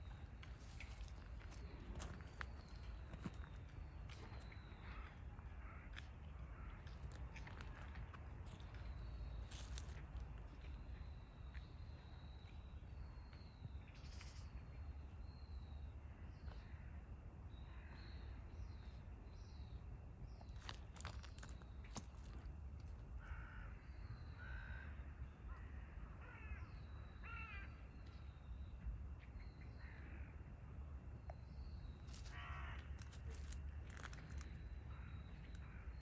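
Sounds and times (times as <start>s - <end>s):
low rumble of outdoor air: 0.0s - 36.0s.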